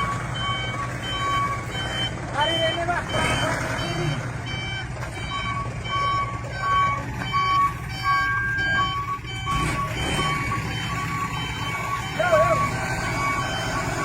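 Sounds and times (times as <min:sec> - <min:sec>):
truck engine running: 0:00.0 - 0:14.0
truck reversing alarm beeping: 0:00.0 - 0:14.0.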